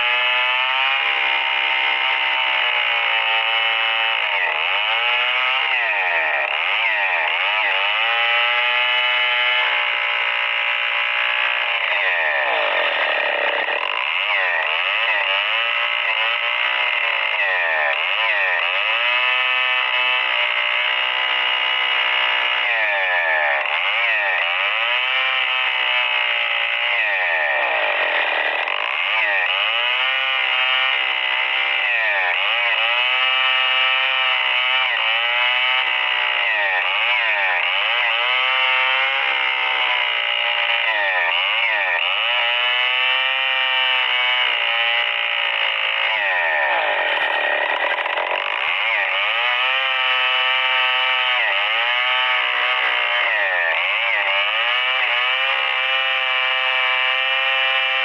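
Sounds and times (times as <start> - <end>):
chainsaw ripping through a log: 0.0 - 58.0.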